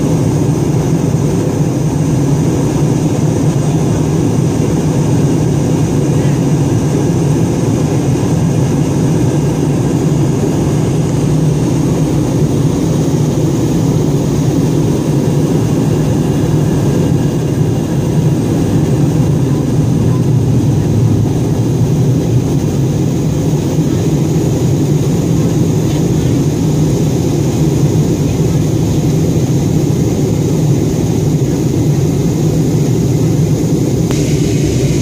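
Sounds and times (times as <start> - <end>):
airliner cabin rumble: 0.0 - 35.0
faint high whine: 0.0 - 35.0.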